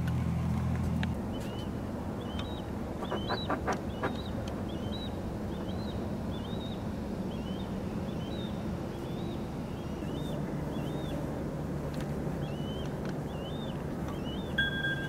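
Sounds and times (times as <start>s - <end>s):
boat engine rumble: 0.0s - 15.0s
songbird chirping: 1.3s - 11.2s, 12.4s - 15.0s.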